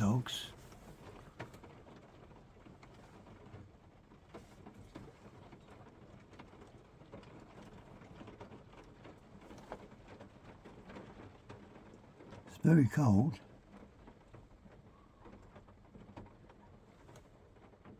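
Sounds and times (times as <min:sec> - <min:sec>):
rain patter: 0:00.0 - 0:17.9.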